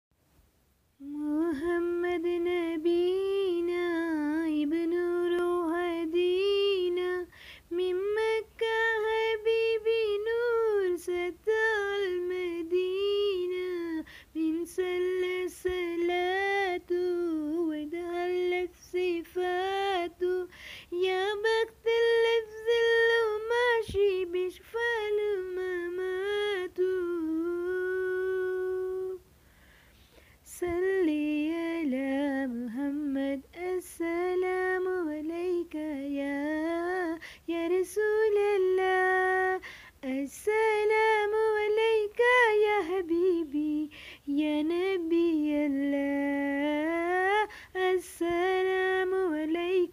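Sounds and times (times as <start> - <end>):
woman singing unaccompanied: 1.0 - 29.3, 30.1 - 49.9.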